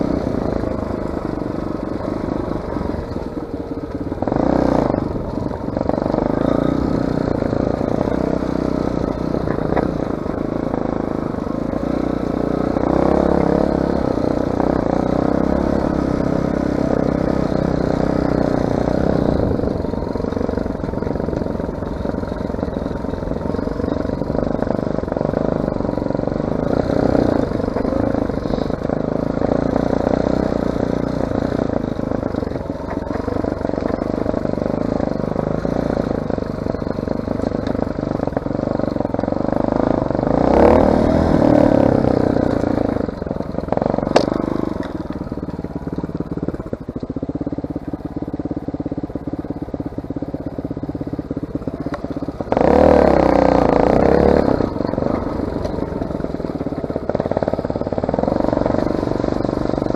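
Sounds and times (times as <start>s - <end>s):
off-road vehicle engine running: 0.0s - 59.9s
rattling over rough ground: 0.0s - 59.9s.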